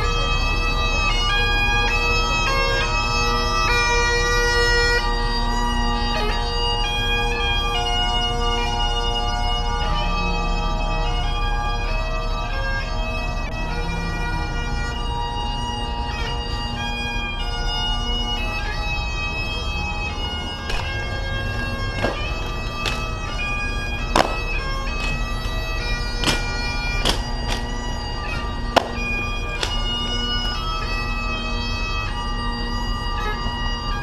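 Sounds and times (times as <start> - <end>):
bagpipes playing a tune: 0.0 - 34.0.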